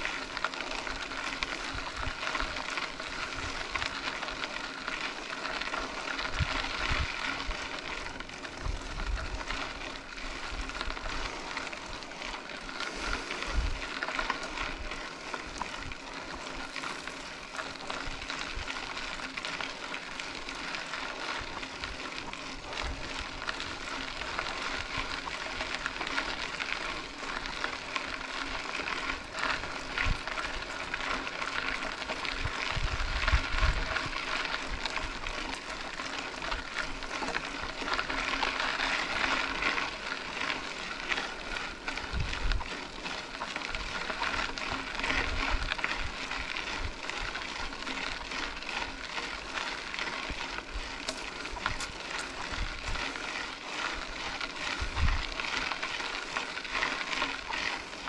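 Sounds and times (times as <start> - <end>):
bike tyres on gravel: 0.0 - 58.0.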